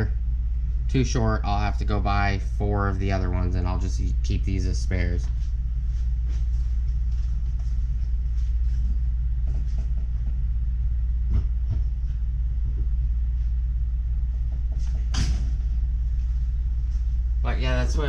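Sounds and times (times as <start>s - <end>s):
constant hum: 0.0s - 18.0s
low mechanical rumble: 0.0s - 18.0s.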